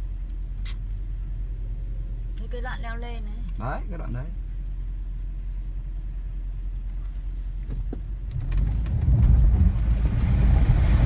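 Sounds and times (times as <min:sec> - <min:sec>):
vehicle rumbling over rough track: 0:00.0 - 0:11.0.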